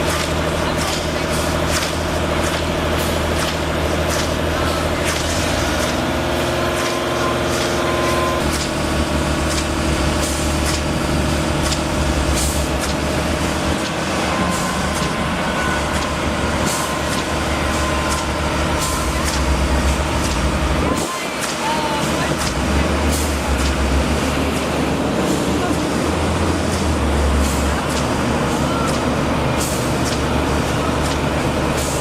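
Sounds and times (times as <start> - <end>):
heavy diesel machinery running: 0.0 - 32.0.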